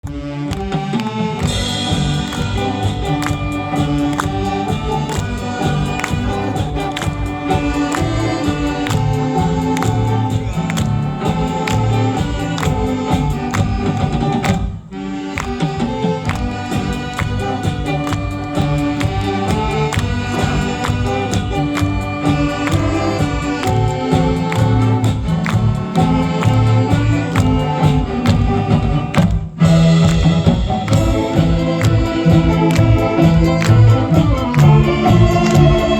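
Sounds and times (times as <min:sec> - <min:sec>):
saxophone big band playing: 0:00.0 - 0:35.9
steady drum beat: 0:00.0 - 0:35.9.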